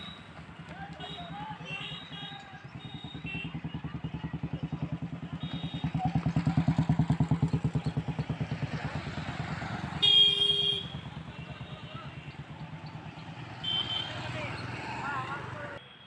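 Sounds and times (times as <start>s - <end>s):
motorcycle engine running: 0.1s - 15.8s.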